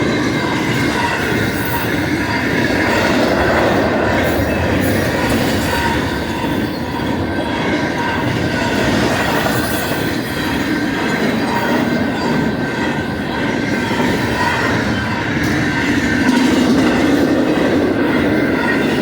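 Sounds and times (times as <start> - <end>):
freight train wheels rumbling on rail: 0.0 - 19.0.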